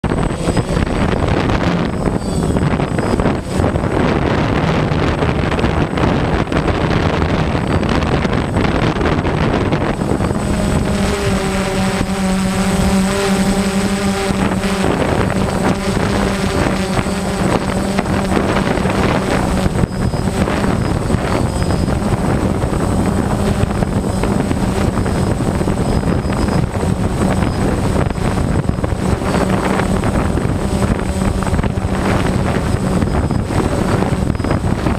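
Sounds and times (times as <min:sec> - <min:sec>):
strong wind rushing: 0:00.0 - 0:34.9
wind howling tone: 0:00.0 - 0:34.9.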